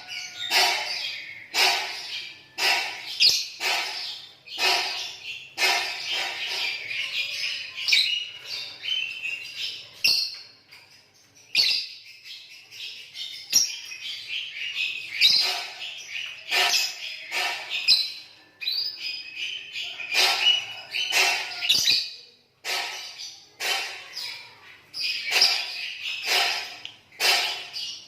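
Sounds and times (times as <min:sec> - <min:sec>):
lovebirds chattering and trilling: 0:00.0 - 0:28.0.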